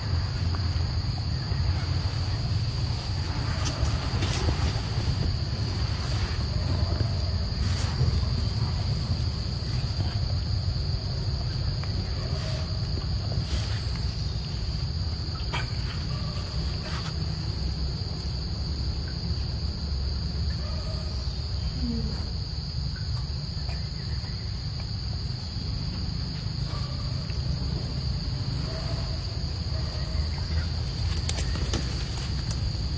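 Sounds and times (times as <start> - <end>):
insect chorus trilling: 0.0 - 32.9.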